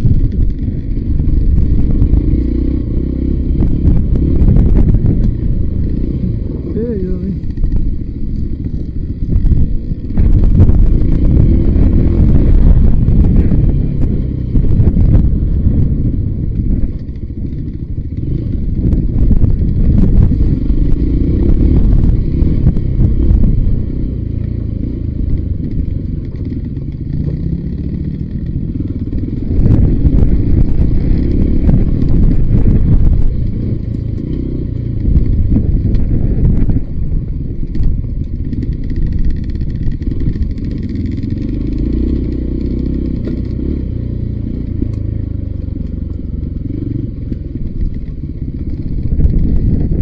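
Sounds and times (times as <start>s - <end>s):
motorcycle engine: 0.0s - 50.0s
wind buffeting microphone: 0.0s - 50.0s.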